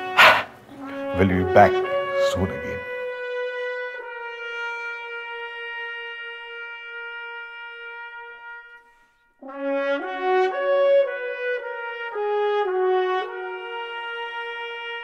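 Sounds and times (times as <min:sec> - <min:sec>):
solo trumpet playing: 0:00.0 - 0:15.0.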